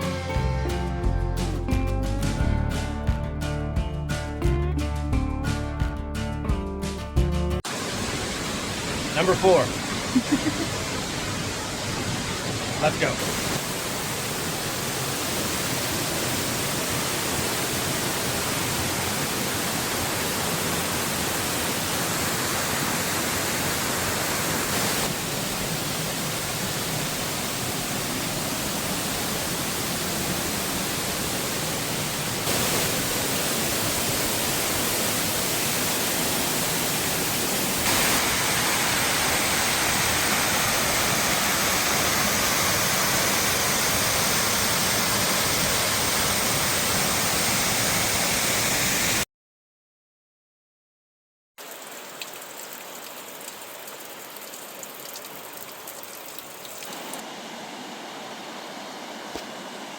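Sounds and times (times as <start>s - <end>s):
waterfall roaring: 7.6s - 49.2s, 51.6s - 59.9s.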